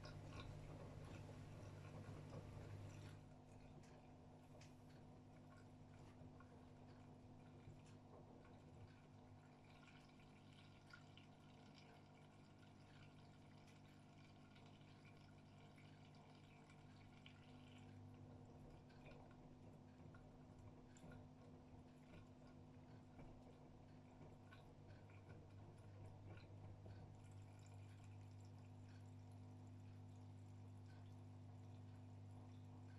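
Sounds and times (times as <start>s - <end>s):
steady low hum: 0.0s - 32.9s
water dripping and trickling: 0.0s - 32.9s.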